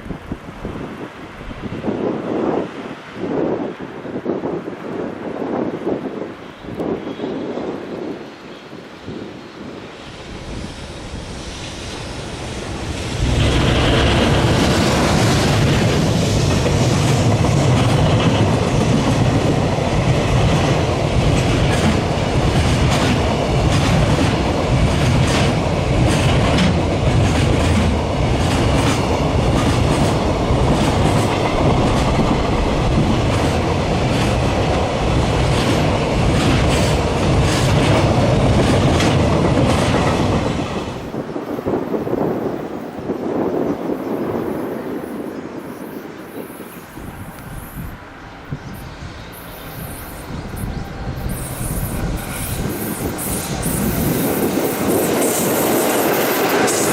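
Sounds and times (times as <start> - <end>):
freight train passing: 0.0 - 56.9.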